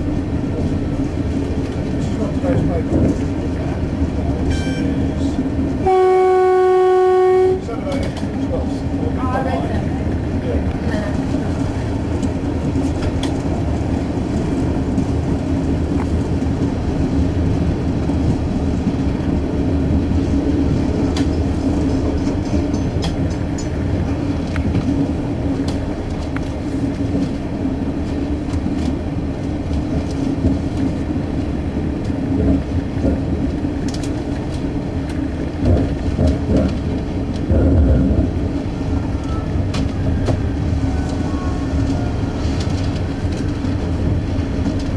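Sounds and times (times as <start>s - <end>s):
railcar engine and wheels rumbling: 0.0s - 44.9s.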